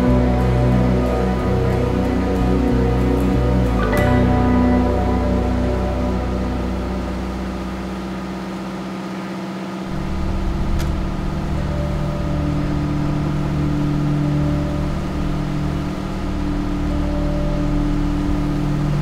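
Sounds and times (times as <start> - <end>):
deep rumble: 0.0 - 9.1, 9.8 - 19.0
diesel engine running: 0.0 - 19.0.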